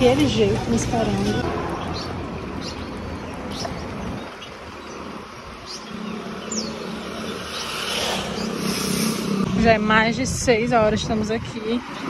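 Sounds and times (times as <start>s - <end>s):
engine hum: 0.0s - 12.0s
passing vehicles: 0.0s - 12.0s.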